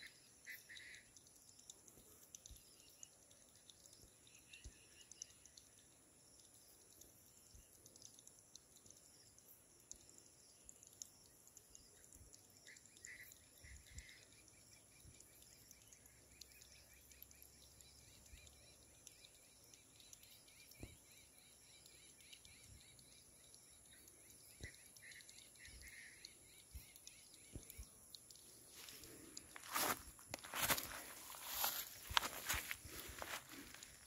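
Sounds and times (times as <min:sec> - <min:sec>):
faint chirps: 0:00.0 - 0:34.0.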